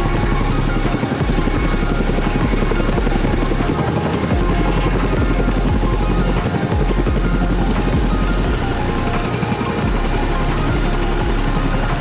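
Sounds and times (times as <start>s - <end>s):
helicopter rotors beating: 0.0s - 12.0s
high turbine whine: 0.0s - 12.0s.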